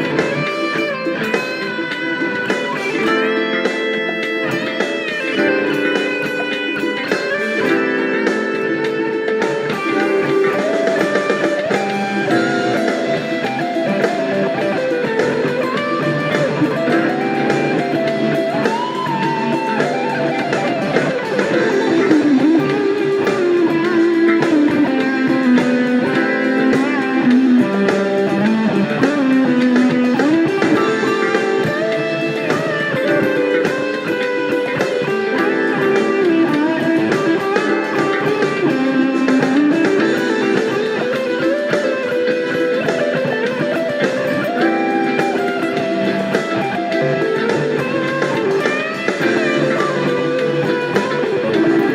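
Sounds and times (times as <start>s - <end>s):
fuzz electric guitar lead: 0.0s - 51.9s.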